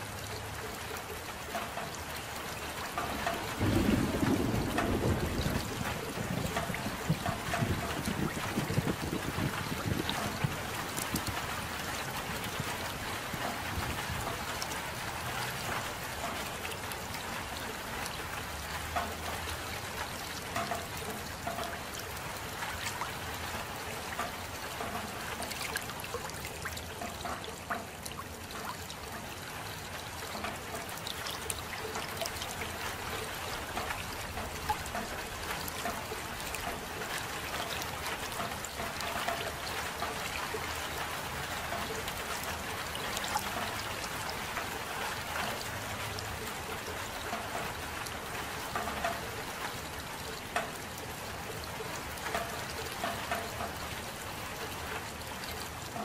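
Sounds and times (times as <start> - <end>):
soft rain falling: 0.0 - 56.0
water trickling: 0.0 - 56.0
drops ticking: 0.1 - 56.0.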